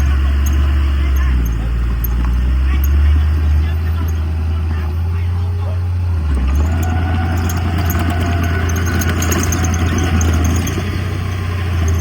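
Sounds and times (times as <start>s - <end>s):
light clicks and rattles: 0.0s - 4.6s, 6.3s - 12.0s
diesel engine droning: 0.0s - 12.0s.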